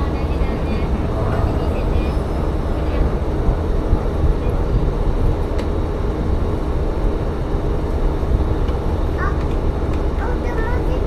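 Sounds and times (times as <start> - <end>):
train running on track: 0.0 - 11.0.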